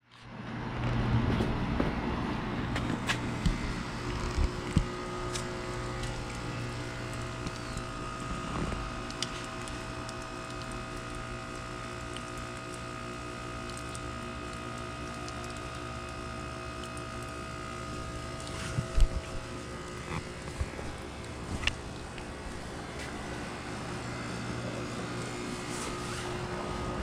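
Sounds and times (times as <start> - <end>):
heat pump compressor hum: 0.1 - 27.0.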